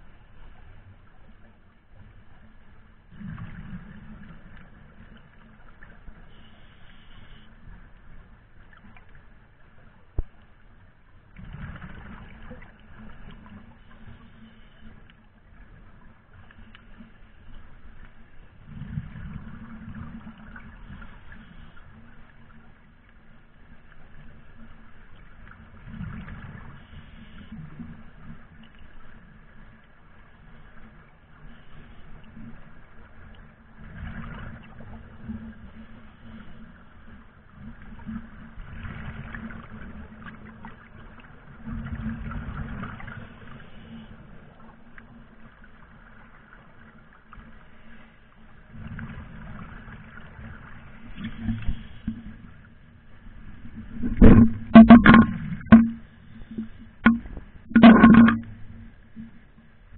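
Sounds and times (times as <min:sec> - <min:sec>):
underwater rush of water: 0:00.0 - 0:59.9.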